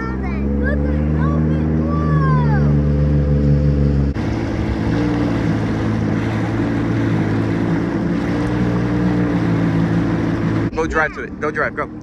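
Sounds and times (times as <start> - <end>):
jet ski engine running: 0.0 - 12.0
water rushing along hull: 0.0 - 12.0.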